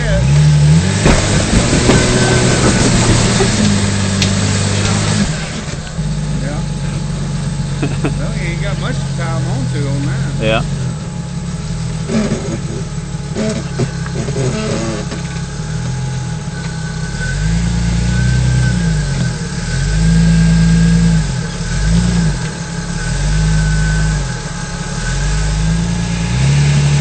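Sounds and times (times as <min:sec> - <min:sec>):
off-road engine revving: 0:00.0 - 0:27.0.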